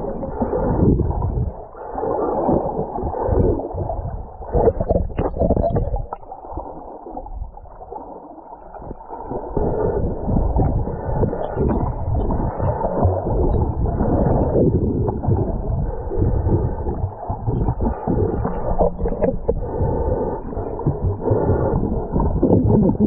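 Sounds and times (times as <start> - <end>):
muffled water sloshing and gurgling: 0.0 - 23.0.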